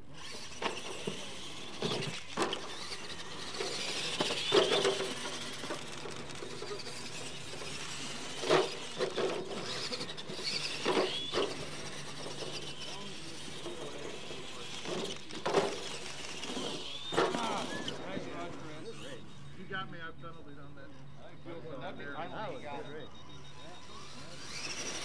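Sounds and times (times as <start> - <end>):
toy truck motor and gear whine: 0.0 - 25.0.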